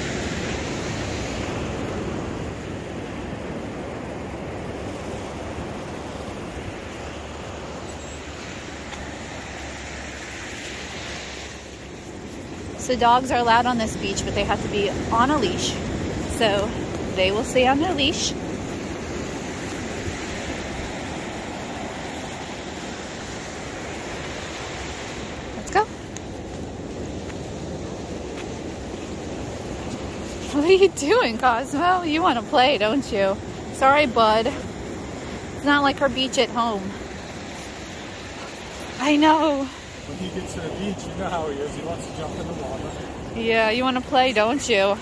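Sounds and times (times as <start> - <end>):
ocean surf washing onto beach: 0.0 - 45.0
wind rumbling on microphone: 0.0 - 45.0.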